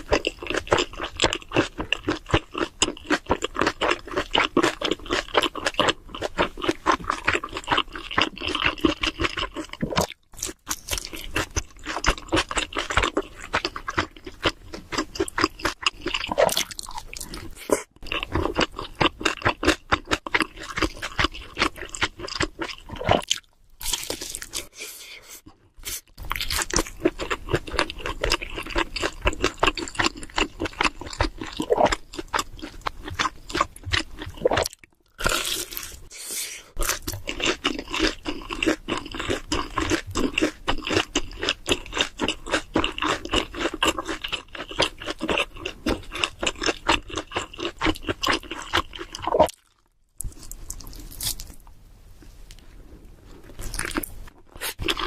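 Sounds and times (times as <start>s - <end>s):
crunchy chewing: 0.0s - 24.9s, 26.2s - 36.1s, 36.7s - 51.7s, 52.5s - 55.0s.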